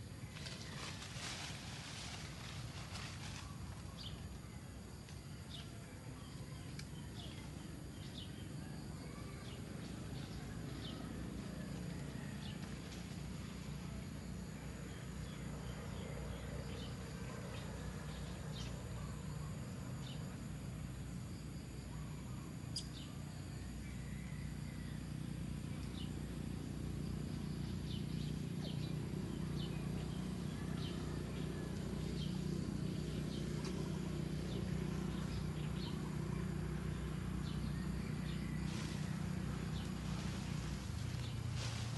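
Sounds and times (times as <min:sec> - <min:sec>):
high insect drone: 0:00.0 - 0:41.9
low steady rumble: 0:00.0 - 0:41.9.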